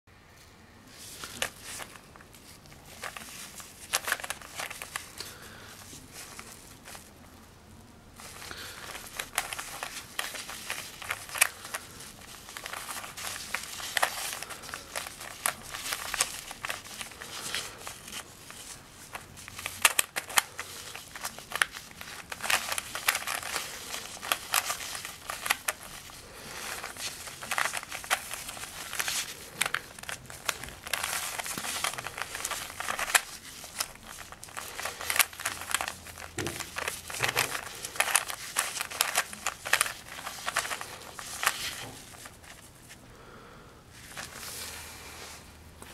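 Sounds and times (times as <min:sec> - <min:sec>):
gloves rustling: 0:00.8 - 0:45.9.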